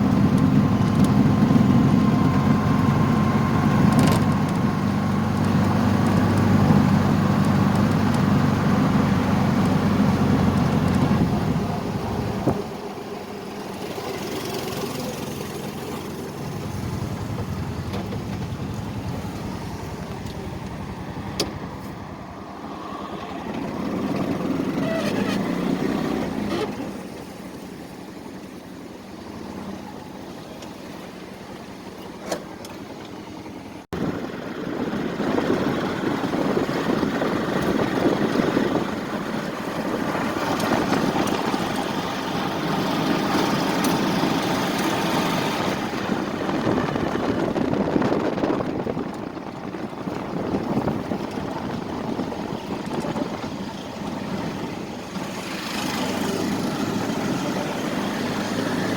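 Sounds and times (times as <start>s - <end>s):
vehicle engines idling: 0.0s - 58.9s.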